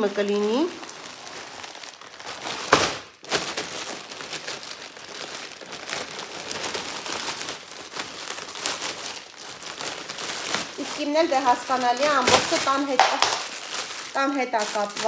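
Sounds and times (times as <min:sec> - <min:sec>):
plastic bag crinkling: 0:00.0 - 0:15.0
sharp plastic crackle: 0:00.0 - 0:15.0.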